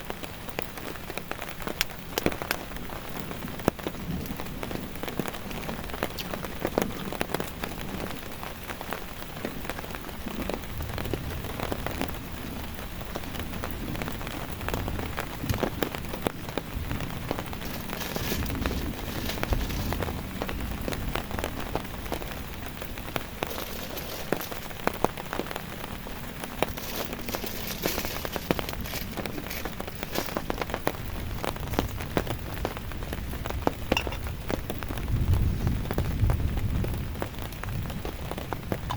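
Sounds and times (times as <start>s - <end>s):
heavy rain hiss: 0.0s - 38.8s
raindrops striking a surface: 0.0s - 38.9s.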